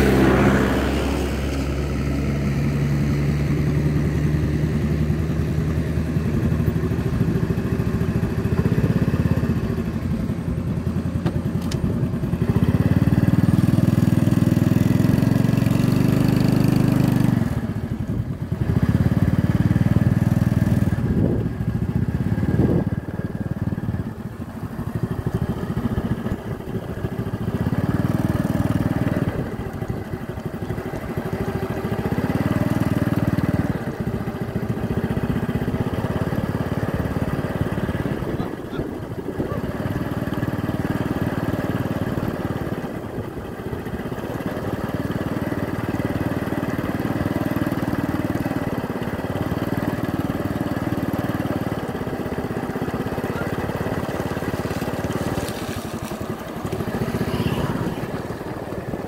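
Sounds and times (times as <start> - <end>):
motorcycle engine riding: 0.0 - 59.0.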